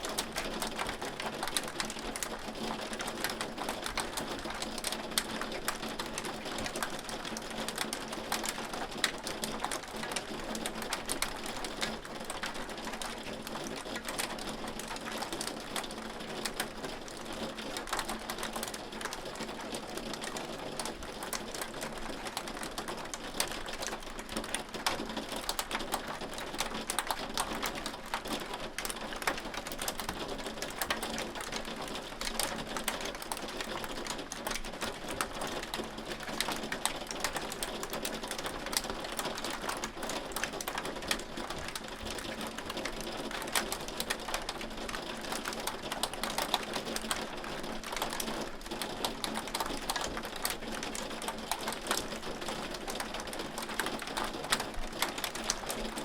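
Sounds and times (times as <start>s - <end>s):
hail pattering on hard surface: 0.1s - 56.0s.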